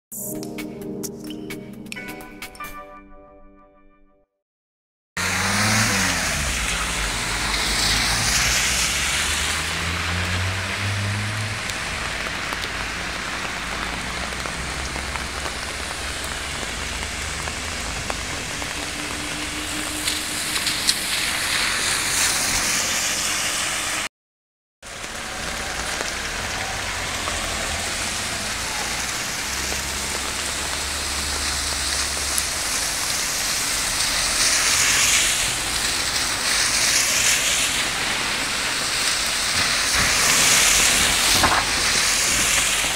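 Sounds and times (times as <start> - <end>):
car tyres splashing through water: 5.2 - 24.1, 24.8 - 42.9
steady rain falling: 5.2 - 24.1, 24.8 - 42.9.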